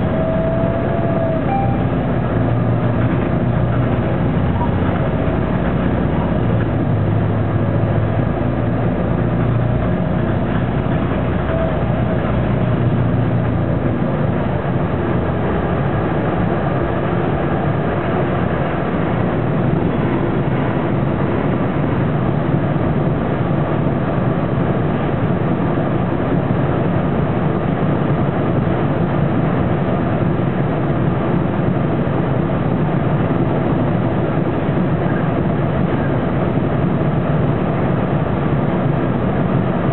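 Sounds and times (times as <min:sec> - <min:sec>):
bus engine rumble: 0:00.0 - 0:39.9.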